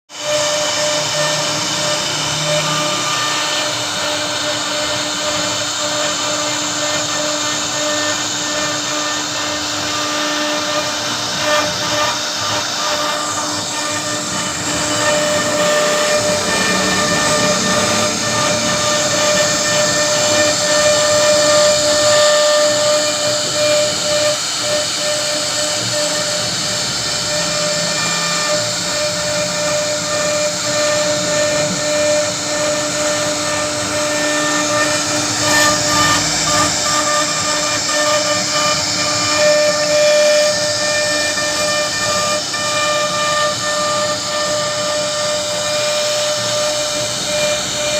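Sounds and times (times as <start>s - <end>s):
router spindle whine: 0.1s - 47.9s.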